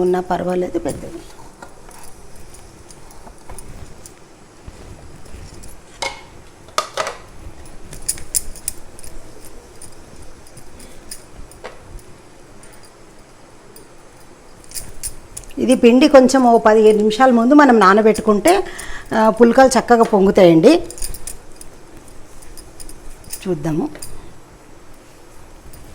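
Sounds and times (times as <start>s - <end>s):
light clinks and taps: 0.9s - 25.9s.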